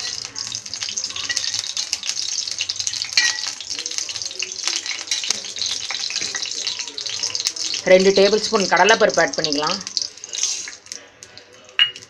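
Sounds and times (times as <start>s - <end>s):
hot oil sizzling and popping: 0.0s - 12.0s.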